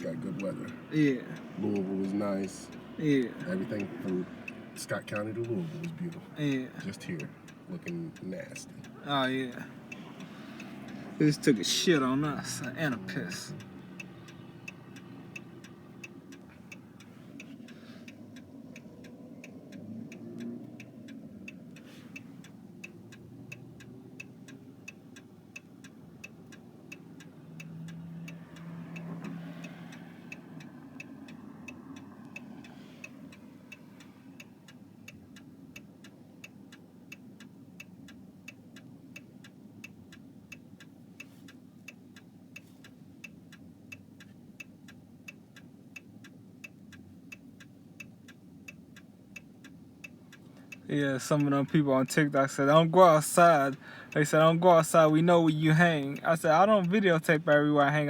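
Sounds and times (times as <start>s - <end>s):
engine and road noise: 0.0s - 58.0s
turn signal clicking: 0.0s - 58.0s.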